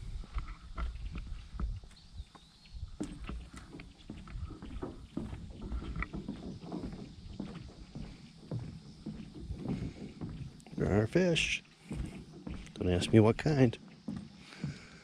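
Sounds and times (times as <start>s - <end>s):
footsteps on wooden dock: 0.0s - 15.0s.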